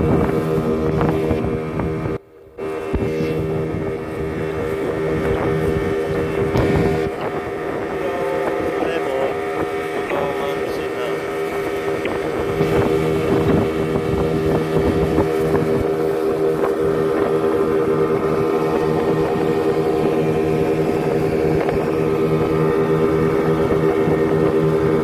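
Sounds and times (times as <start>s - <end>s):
outboard motor droning: 0.0s - 25.0s.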